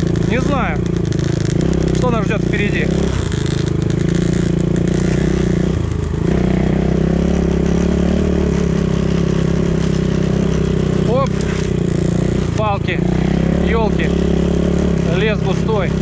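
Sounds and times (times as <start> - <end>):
motorcycle engine under throttle: 0.0 - 16.0.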